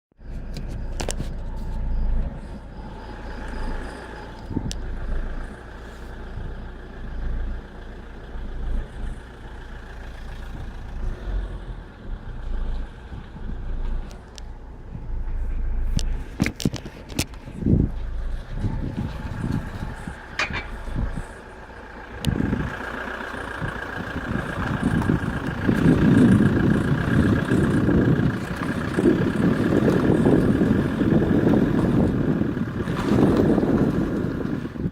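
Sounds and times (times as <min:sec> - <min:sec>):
diesel engine rumble: 0:00.1 - 0:34.9
engine rattling noise: 0:00.2 - 0:34.9.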